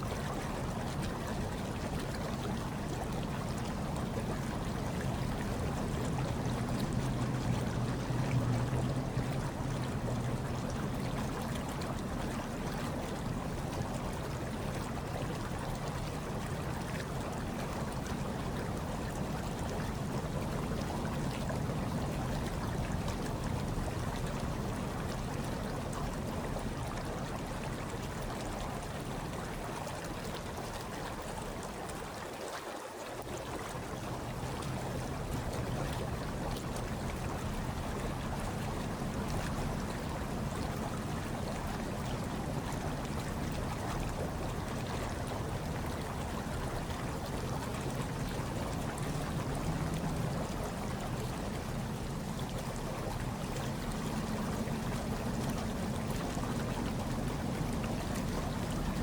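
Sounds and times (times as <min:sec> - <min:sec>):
hot tub water churning and bubbling: 0:00.0 - 0:59.0.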